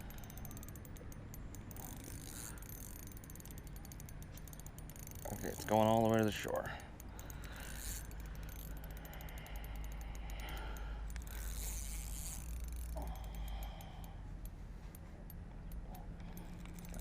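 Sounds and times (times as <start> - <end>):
fishing reel drag clicking: 0.0 - 17.0.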